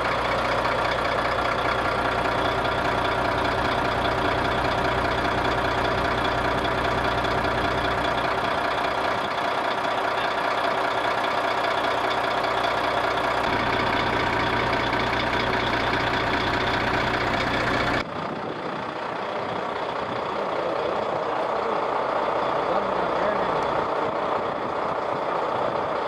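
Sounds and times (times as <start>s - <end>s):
heavy truck engine running: 0.0s - 26.0s
rough engine sound: 0.0s - 26.0s.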